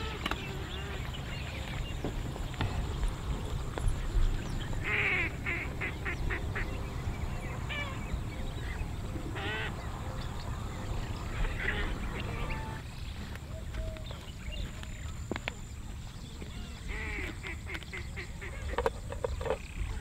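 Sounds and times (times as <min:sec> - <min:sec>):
bird calling: 0:00.0 - 0:20.0.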